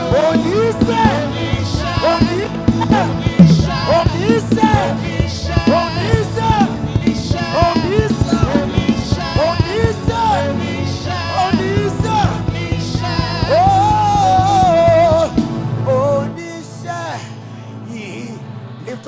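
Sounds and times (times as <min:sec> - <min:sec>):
person singing wordless runs: 0:00.0 - 0:15.4
gospel band with drums: 0:00.0 - 0:16.3.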